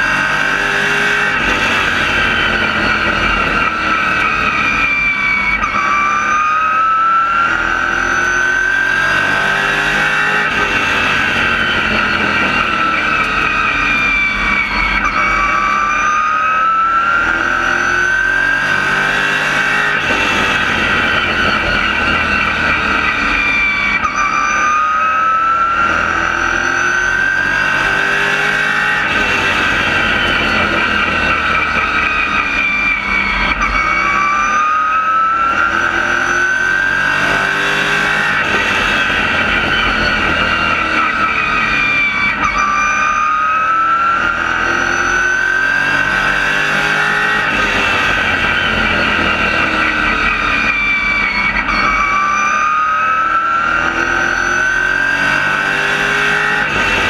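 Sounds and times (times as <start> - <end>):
race car engine revving: 0.0 - 57.0
road and wind noise: 0.0 - 57.0.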